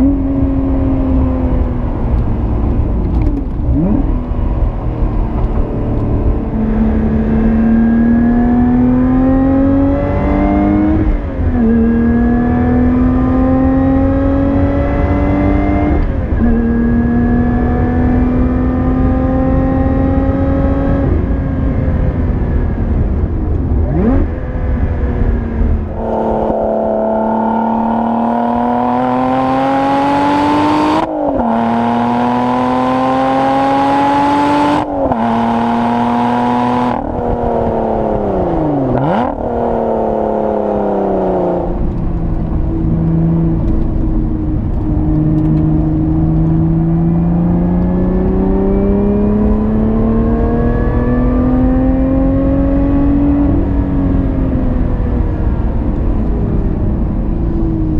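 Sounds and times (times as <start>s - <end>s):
car engine revving through gears: 0.0s - 57.9s.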